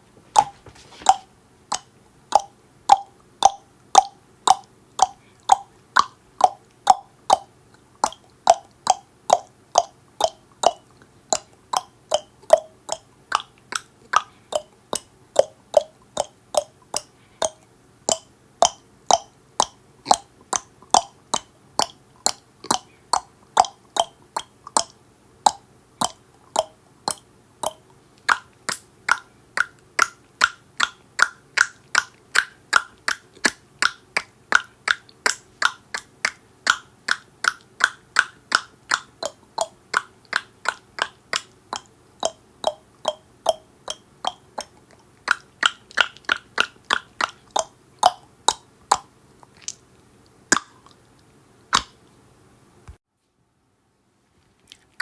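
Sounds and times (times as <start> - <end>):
person clicking tongue: 0.4 - 49.8, 50.5 - 51.0, 51.7 - 52.0.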